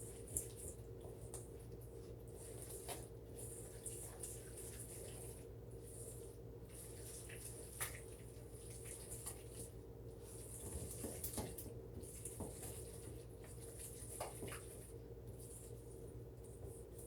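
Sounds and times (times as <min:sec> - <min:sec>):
dough stirred in a bowl: 0:00.0 - 0:17.0.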